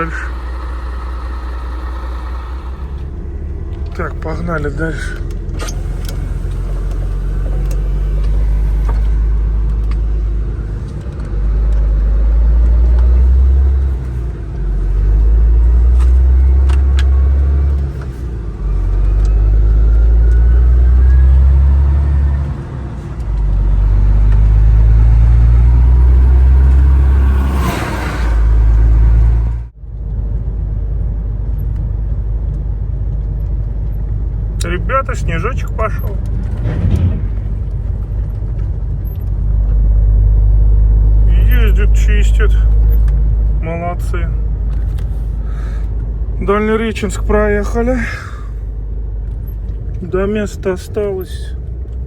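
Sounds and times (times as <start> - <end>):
truck diesel engine accelerating: 0.0 - 52.0.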